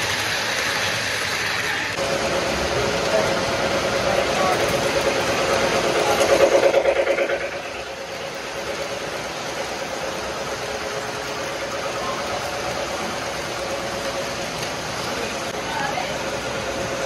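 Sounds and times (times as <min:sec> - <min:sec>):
model train rumbling past: 0:00.0 - 0:17.0.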